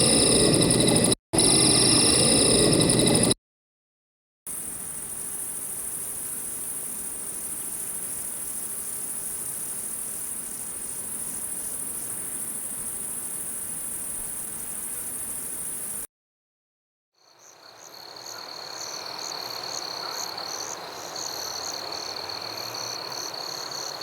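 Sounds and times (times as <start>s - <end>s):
crickets chirping: 0.0s - 3.4s, 4.5s - 16.0s, 17.4s - 24.0s.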